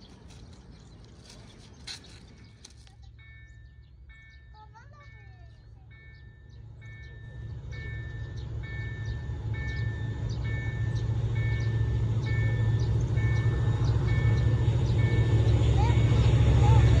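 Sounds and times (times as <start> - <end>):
train rumble: 0.0 - 17.0
level crossing warning bell: 3.0 - 17.0.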